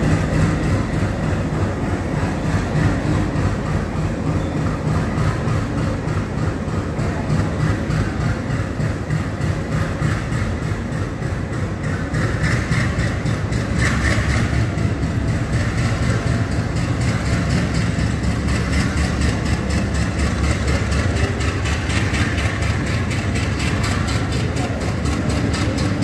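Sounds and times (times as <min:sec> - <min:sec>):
train wheels rumbling and clattering: 0:00.0 - 0:26.0.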